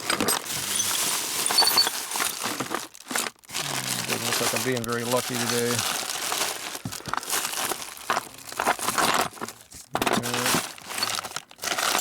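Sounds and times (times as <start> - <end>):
rummaging through loose hardware: 0.0 - 12.0.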